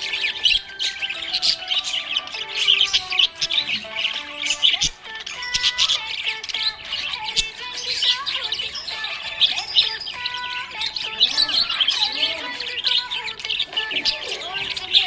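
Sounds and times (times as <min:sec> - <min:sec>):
budgerigars chirping and warbling: 0:00.0 - 0:15.0.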